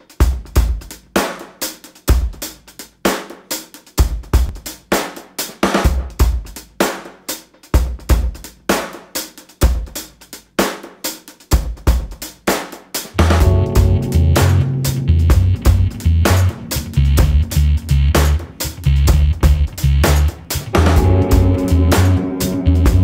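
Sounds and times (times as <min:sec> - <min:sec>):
drum kit groove: 0:00.0 - 0:23.0.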